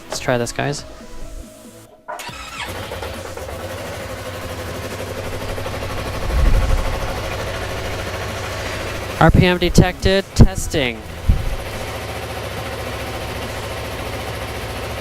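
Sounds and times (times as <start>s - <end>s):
motorcycle engine starting and idling: 1.4s - 15.0s.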